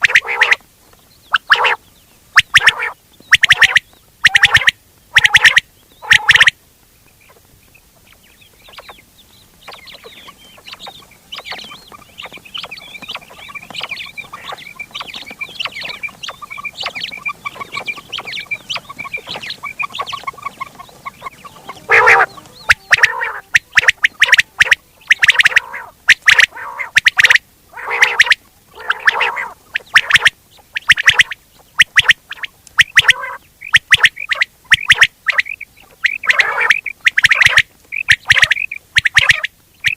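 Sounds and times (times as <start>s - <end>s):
quail calling: 0.0s - 0.6s, 1.2s - 6.6s, 7.2s - 39.9s.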